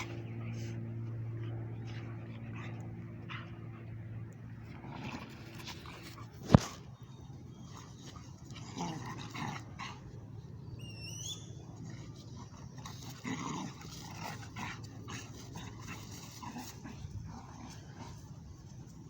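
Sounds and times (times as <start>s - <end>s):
dogs growling and whimpering: 0.0s - 10.8s, 11.4s - 18.9s.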